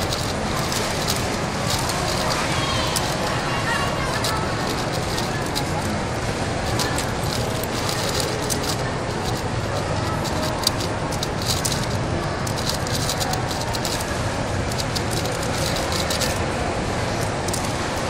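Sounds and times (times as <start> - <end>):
puzzle cube clicking: 0.0 - 6.0, 6.6 - 16.4
steady rushing background noise: 0.0 - 18.0.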